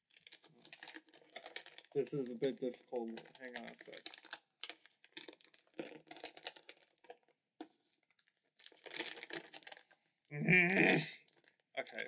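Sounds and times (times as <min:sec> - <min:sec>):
plastic packaging crinkling: 0:00.0 - 0:07.3, 0:08.1 - 0:10.0, 0:11.2 - 0:12.0.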